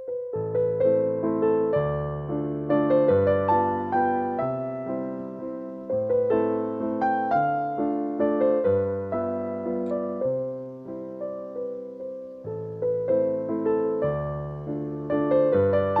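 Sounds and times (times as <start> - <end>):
gentle piano piece: 0.0 - 16.0.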